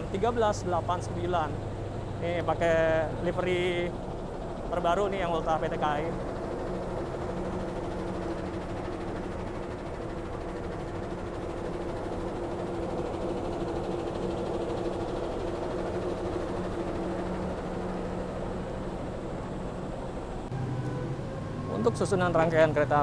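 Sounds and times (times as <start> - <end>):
diesel train idling: 0.0 - 23.0.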